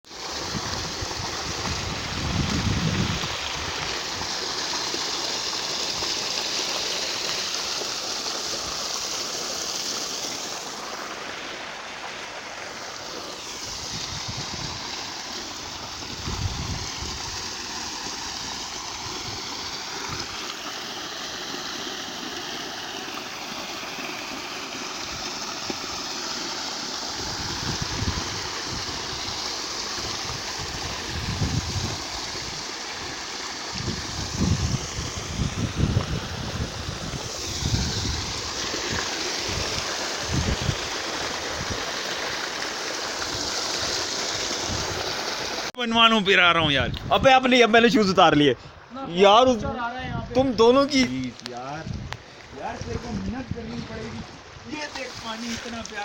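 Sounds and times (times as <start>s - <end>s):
water rushing over waterfall: 0.1s - 45.8s, 52.5s - 56.0s.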